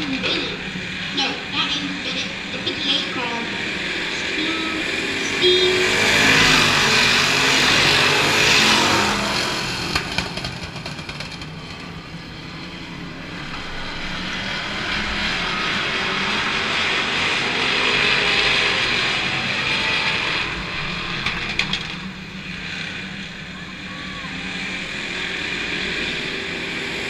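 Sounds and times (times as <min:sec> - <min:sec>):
stock car engines racing past: 0:00.0 - 0:27.0.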